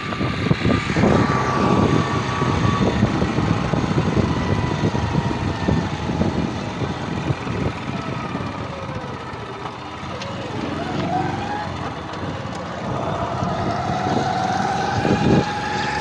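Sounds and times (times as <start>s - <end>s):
motorcycle engine rumbling: 0.0s - 16.0s
wind buffeting microphone: 0.0s - 16.0s.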